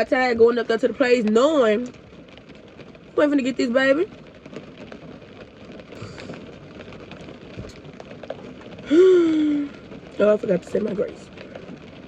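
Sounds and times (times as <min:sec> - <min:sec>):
faint crackling noise: 0:00.0 - 0:12.0.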